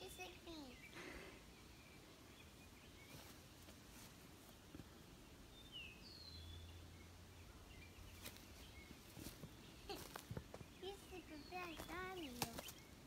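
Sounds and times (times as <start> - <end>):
faint bird chirps: 0.0 - 3.5, 5.2 - 13.0.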